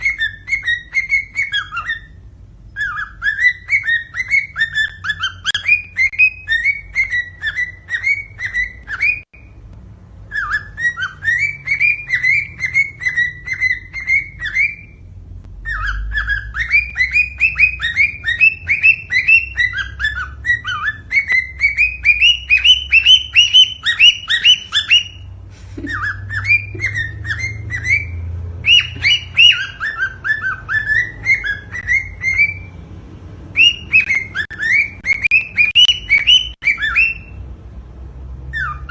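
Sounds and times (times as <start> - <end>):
cockatiel whistled chirps: 0.0 - 9.6, 10.3 - 15.0, 15.6 - 32.7, 33.5 - 37.4, 38.5 - 38.9.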